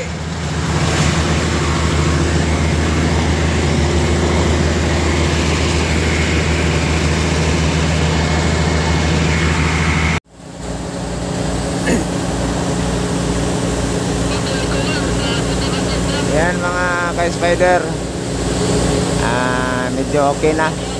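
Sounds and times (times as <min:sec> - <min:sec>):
fire truck engine running: 0:00.0 - 0:20.9.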